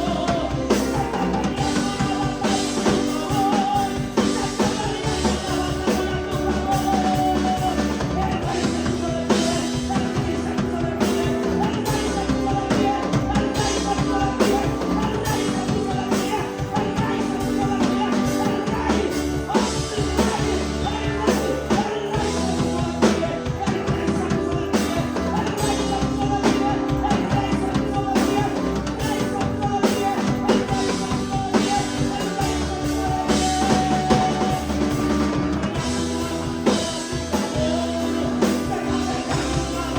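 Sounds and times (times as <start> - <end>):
person singing: 0.0 - 39.9
upbeat worship band music: 0.0 - 39.9.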